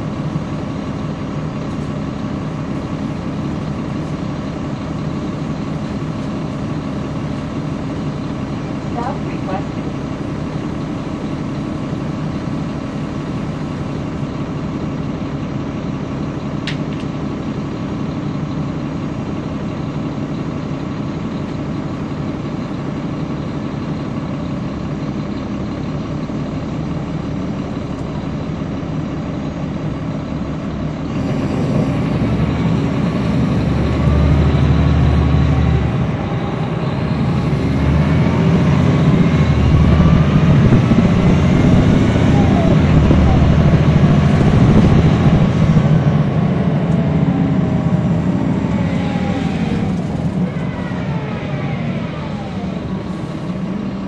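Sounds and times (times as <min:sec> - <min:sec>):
bus diesel engine idling and revving: 0:00.0 - 0:54.0.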